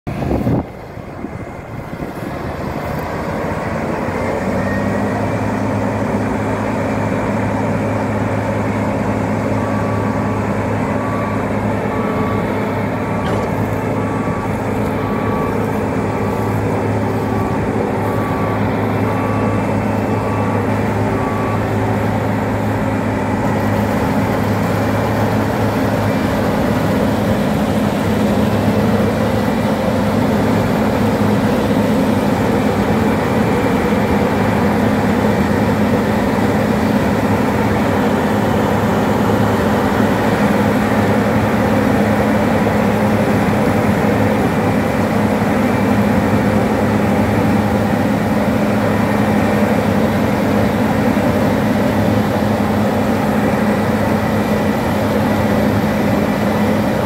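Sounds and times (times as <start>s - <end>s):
combine harvester humming: 0.0s - 57.0s.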